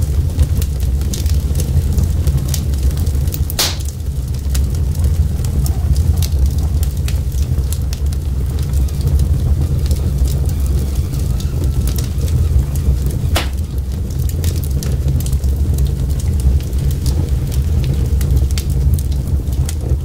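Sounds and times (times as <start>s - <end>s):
fire rumbling: 0.0s - 20.0s
wood crackling and popping: 0.0s - 20.0s.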